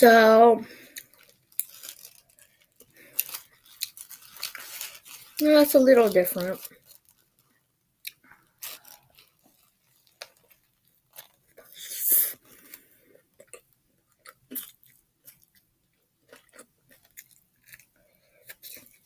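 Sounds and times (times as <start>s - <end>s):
chewing crispy food: 0.7s - 19.0s.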